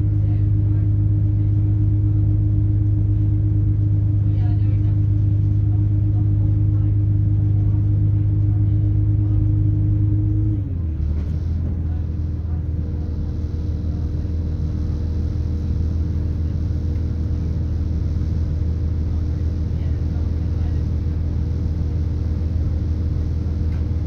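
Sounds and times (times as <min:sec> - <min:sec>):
train diesel engine humming: 0:00.0 - 0:24.0.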